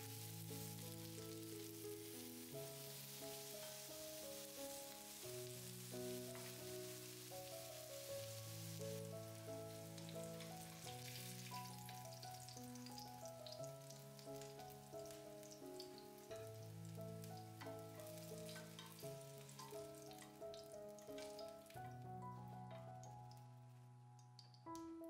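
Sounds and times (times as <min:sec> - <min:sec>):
food frying in hot oil: 0:00.0 - 0:23.4
soft instrumental music: 0:00.0 - 0:25.0.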